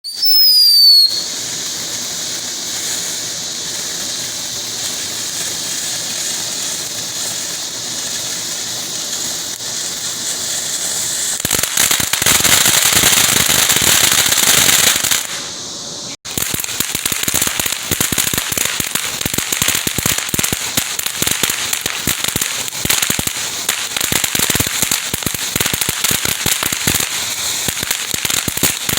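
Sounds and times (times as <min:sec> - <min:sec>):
firework crackling: 0:00.0 - 0:28.9
firework hiss: 0:00.0 - 0:28.9
firework whistle: 0:00.0 - 0:28.9.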